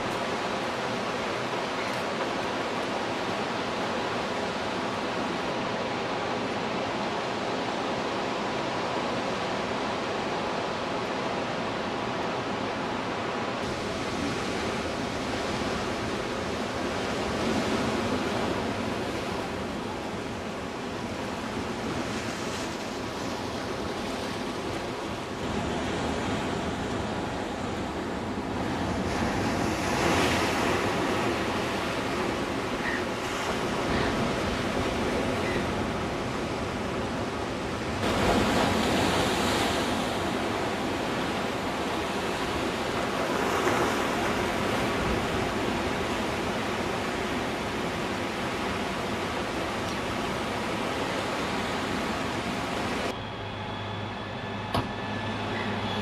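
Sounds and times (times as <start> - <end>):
ocean surf washing over rocks: 0.0 - 53.2.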